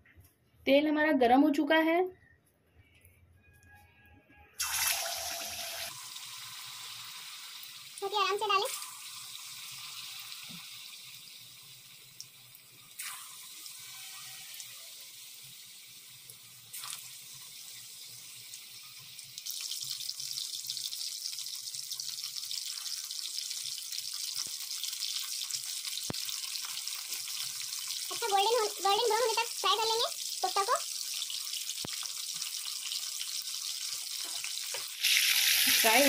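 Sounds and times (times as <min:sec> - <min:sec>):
food frying in hot oil: 0:04.6 - 0:36.0.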